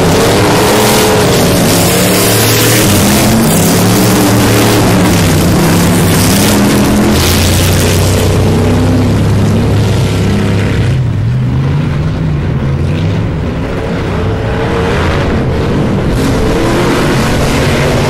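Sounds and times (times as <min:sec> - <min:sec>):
off-road buggy engines revving: 0:00.0 - 0:18.0
steady low drone: 0:00.0 - 0:18.0.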